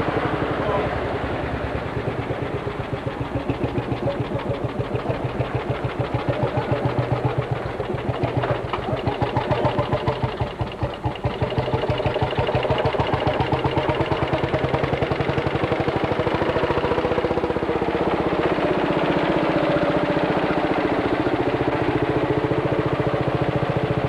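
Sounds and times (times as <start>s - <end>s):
two-stroke tractor engine running: 0.0s - 24.0s.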